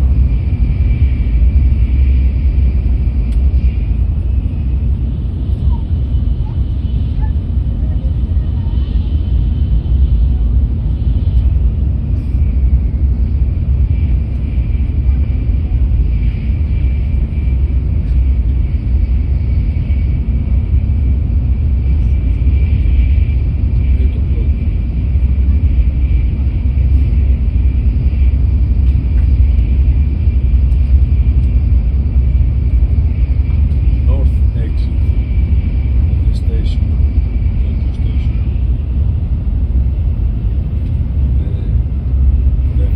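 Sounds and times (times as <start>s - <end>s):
train rumbling at speed: 0.0s - 42.9s.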